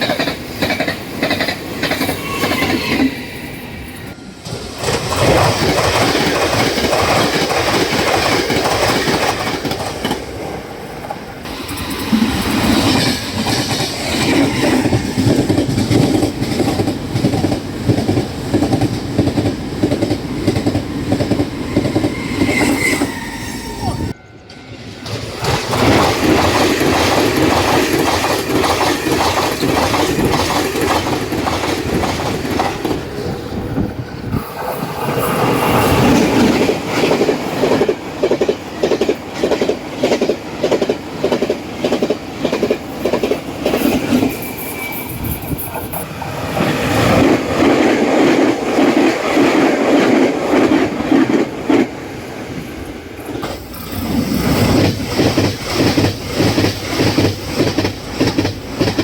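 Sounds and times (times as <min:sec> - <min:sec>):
train wheels clacking over rail joints: 0:00.0 - 0:02.8, 0:04.4 - 0:10.4, 0:11.1 - 0:23.2, 0:25.0 - 0:33.4, 0:34.7 - 0:51.9, 0:53.3 - 0:59.0.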